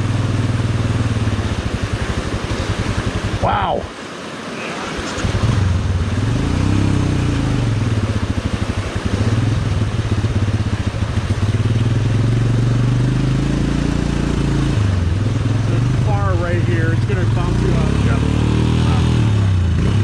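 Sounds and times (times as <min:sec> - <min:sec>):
motorcycle engine running: 0:00.0 - 0:03.8, 0:05.2 - 0:20.0
water rushing around bike: 0:00.0 - 0:20.0.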